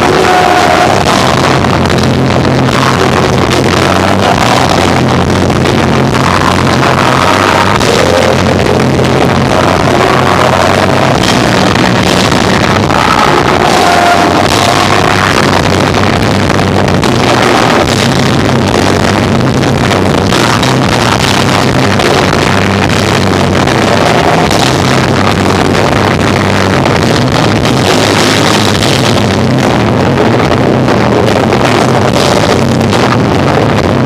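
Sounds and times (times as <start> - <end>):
distorted live rock band: 0.0 - 34.0.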